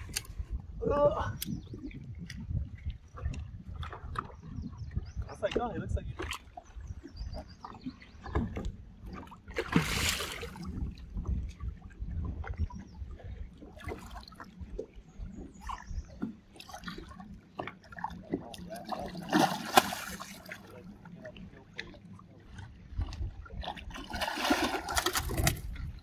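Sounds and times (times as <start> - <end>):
water lapping against boat: 0.0 - 26.0.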